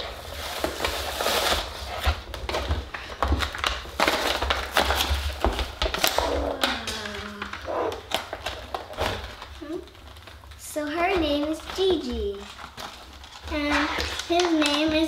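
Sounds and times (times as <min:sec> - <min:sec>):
plastic packaging crackling: 0:00.0 - 0:15.0.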